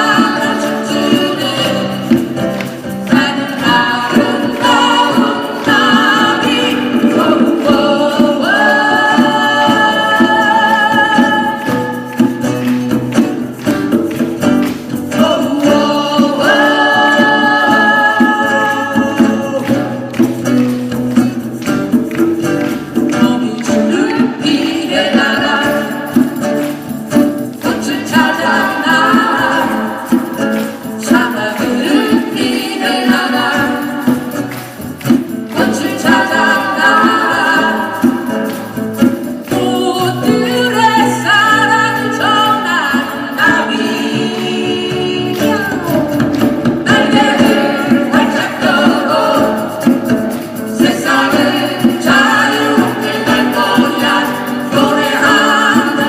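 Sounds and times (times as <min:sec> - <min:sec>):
steady percussion beat: 0:00.0 - 0:56.0.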